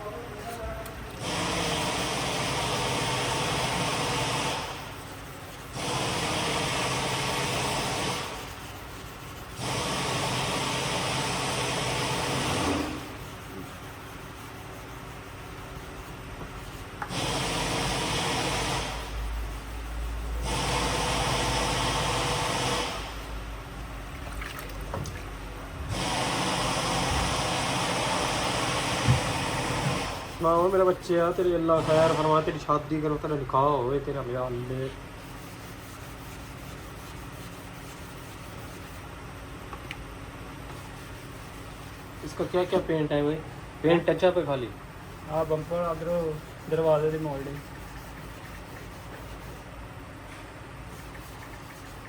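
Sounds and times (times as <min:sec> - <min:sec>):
workshop power tool running: 0:00.0 - 0:24.0, 0:24.9 - 0:52.0.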